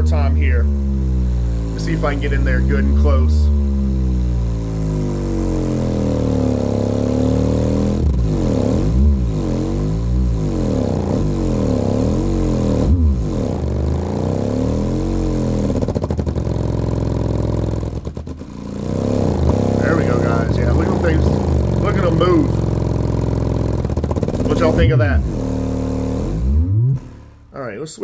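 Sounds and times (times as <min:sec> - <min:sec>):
fluttering pulsing bass note: 0:00.0 - 0:27.3
bass tone sweeps from subwoofers: 0:00.0 - 0:27.8.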